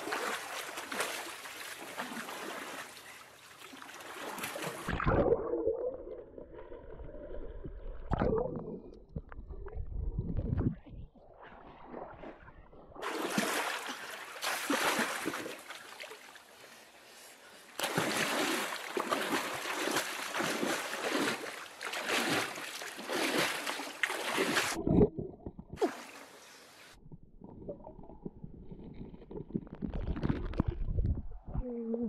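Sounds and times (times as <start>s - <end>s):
water splashing and sloshing: 0.0s - 9.6s, 11.4s - 31.2s.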